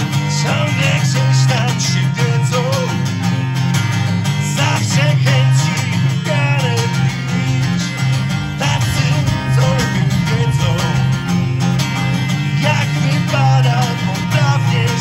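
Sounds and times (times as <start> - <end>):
man singing: 0.0 - 3.1, 4.4 - 15.0
acoustic guitars strummed: 0.0 - 15.0.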